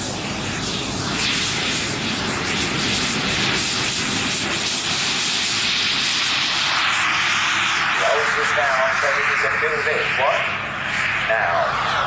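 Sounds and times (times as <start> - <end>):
model aircraft engine rushing: 0.0 - 12.0.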